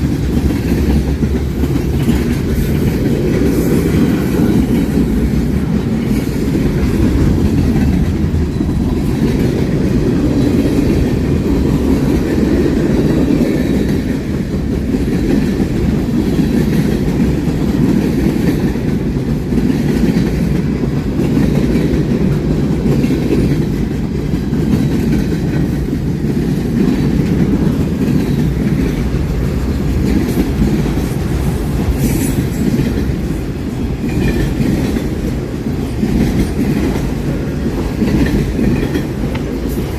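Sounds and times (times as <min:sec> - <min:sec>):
railcars rumbling past: 0:00.0 - 0:39.9
wheels clacking over rail joints: 0:00.0 - 0:39.9.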